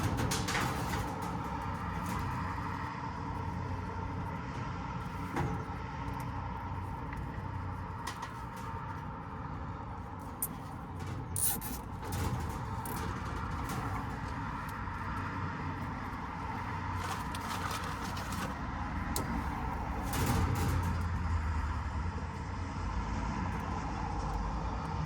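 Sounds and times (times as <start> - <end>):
handling clicks and knocks: 0.0 - 9.1, 10.2 - 21.6
short rattle: 0.0 - 9.3, 10.0 - 22.1
low mechanical hum: 0.0 - 25.0.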